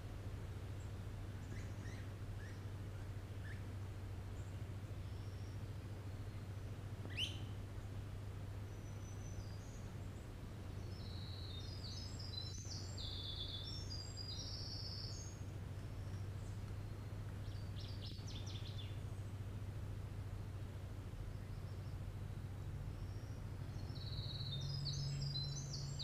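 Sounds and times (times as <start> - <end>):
steady low hum: 0.0 - 26.0
wren singing trills: 0.8 - 3.6, 4.3 - 8.0, 8.6 - 19.4, 21.2 - 26.0.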